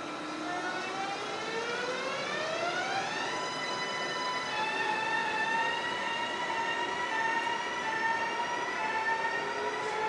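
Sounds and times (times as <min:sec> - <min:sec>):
electric train motor whine: 0:00.0 - 0:10.0.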